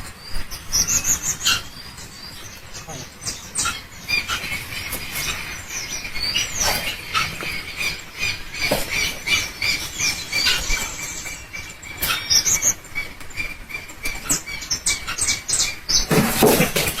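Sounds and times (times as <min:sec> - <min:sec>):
rustling and scratching: 0:00.0 - 0:17.0
small animals squeaking: 0:00.0 - 0:17.0.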